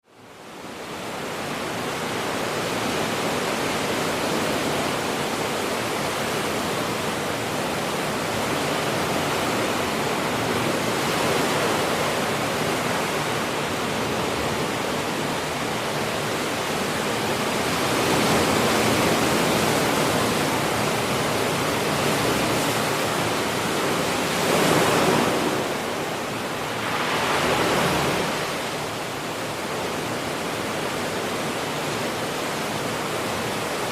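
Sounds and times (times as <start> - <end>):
ocean surf washing: 0.3 - 33.9
waves breaking: 0.8 - 33.9.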